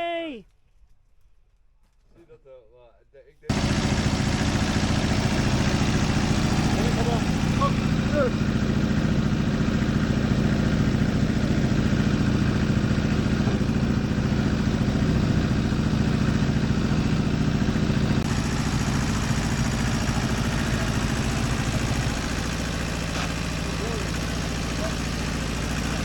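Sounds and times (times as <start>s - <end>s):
tractor diesel engine idling: 3.5s - 26.0s.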